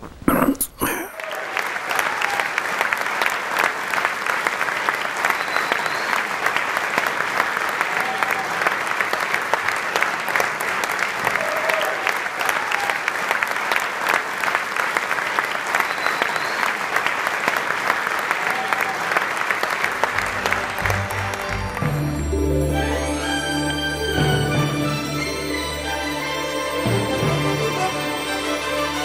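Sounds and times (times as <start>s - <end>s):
audience applauding: 1.0s - 29.0s.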